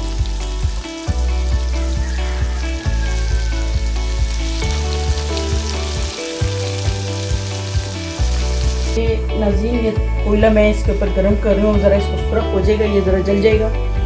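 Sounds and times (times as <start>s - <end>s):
music with beat and bass: 0.0s - 14.0s
sizzling hiss: 0.0s - 14.0s.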